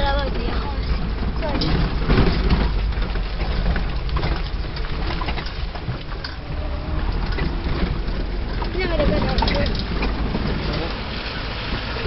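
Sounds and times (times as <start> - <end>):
vehicle body rattles and knocks: 0.0 - 12.0
vehicle engine and road rumble: 0.0 - 12.0.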